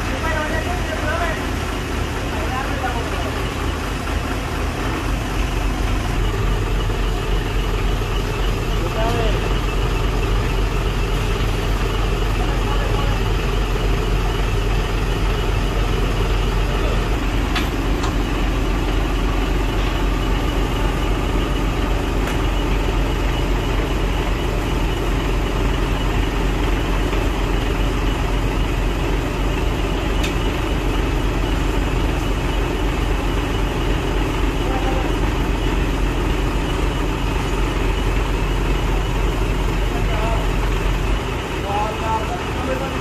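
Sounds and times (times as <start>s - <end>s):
road noise: 0.0s - 43.0s
truck engine running: 0.0s - 43.0s.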